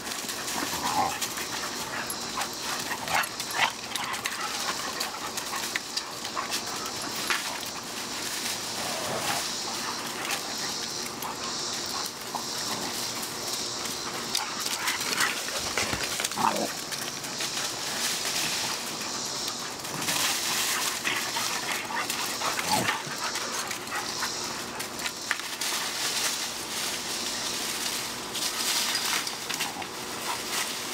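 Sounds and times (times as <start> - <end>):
paws scuffling in dry leaves: 0.0 - 30.9.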